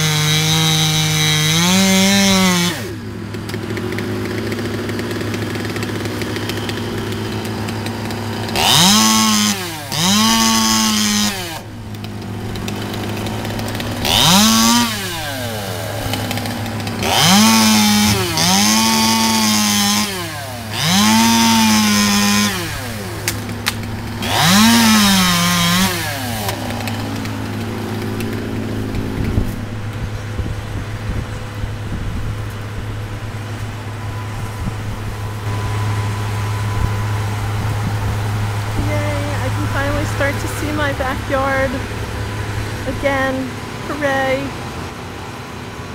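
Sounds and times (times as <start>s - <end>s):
chainsaw revving: 0.0s - 45.8s
low engine hum: 1.8s - 45.9s.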